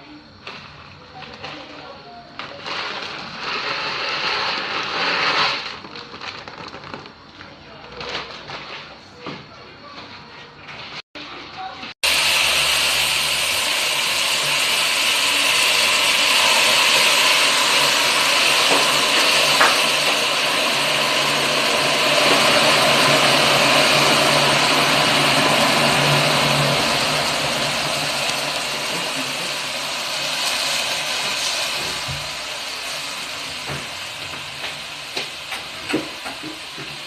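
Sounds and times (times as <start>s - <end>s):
noodles sizzling in a pan: 2.0s - 7.0s, 12.0s - 37.0s.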